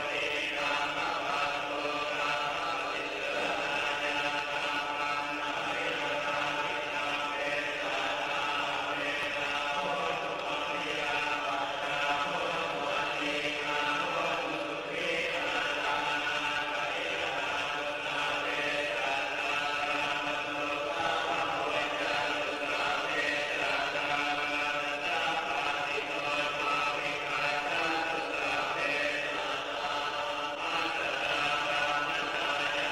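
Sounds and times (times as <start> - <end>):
monks chanting: 0.0 - 32.9.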